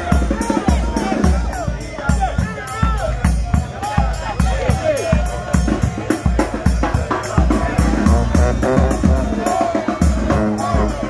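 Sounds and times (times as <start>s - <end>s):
brass band playing: 0.0s - 11.0s
driving drum beat: 0.0s - 11.0s.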